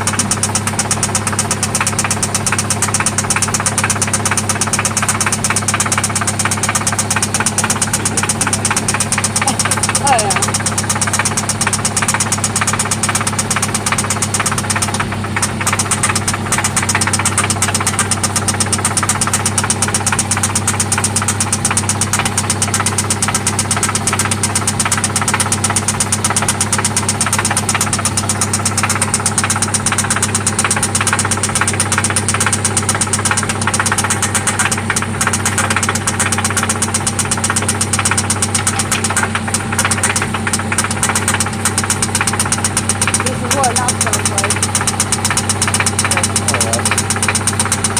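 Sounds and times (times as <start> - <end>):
car engine knocking: 0.0 - 47.9.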